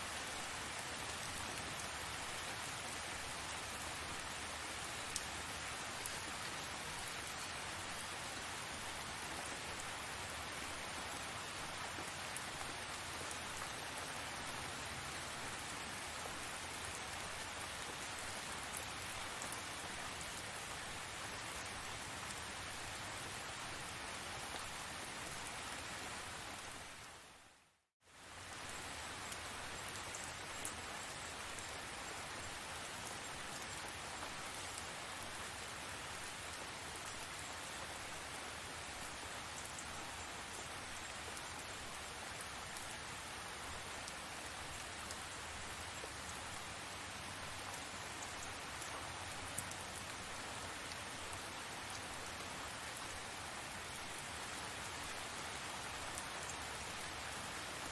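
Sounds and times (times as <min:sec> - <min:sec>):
rain drops ticking: 0:00.0 - 0:27.4, 0:28.1 - 0:57.9
steady rain hissing: 0:00.0 - 0:57.9.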